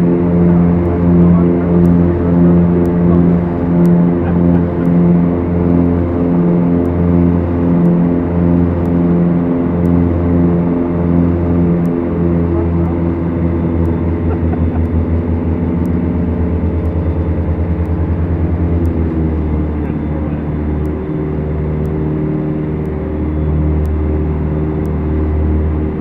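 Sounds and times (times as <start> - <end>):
twin aircraft engines in flight: 0.0 - 26.0.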